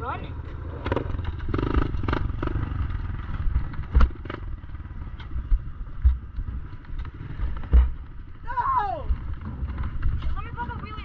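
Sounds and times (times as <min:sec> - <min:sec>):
pit bike engine rumbling: 0:00.0 - 0:11.0
sharp knocks and clatters: 0:00.8 - 0:08.3, 0:09.1 - 0:10.8.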